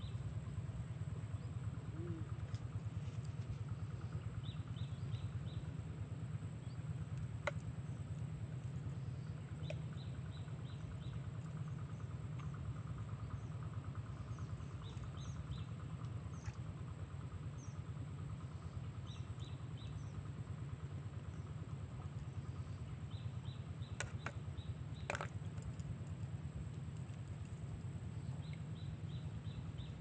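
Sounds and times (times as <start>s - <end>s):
small birds chirping: 0.9s - 30.0s.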